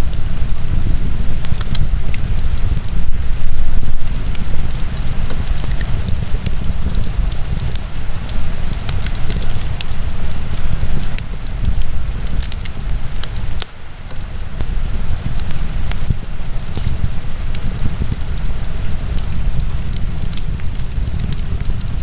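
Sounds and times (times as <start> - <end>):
low rush of flames: 0.0 - 22.0
wood fire crackling and popping: 0.0 - 22.0.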